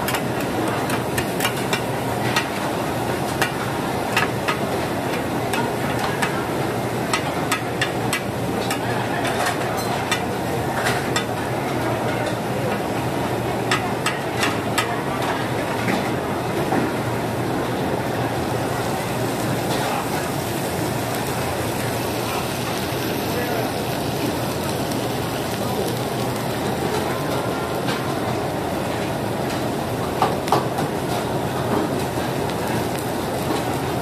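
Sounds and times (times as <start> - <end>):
food sizzling: 0.0 - 15.8, 17.4 - 34.0.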